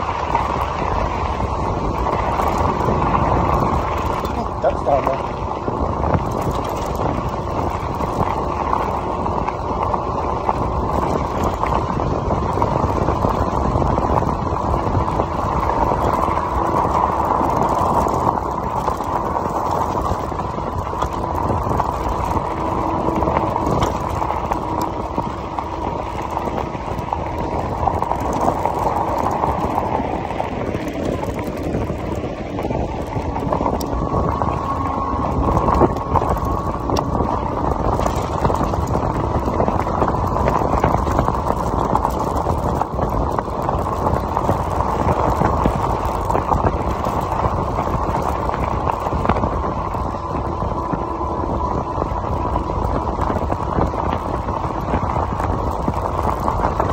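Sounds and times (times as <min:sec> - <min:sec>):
tyres rolling over gravel: 0:00.0 - 0:56.9
wind on microphone: 0:00.0 - 0:56.9.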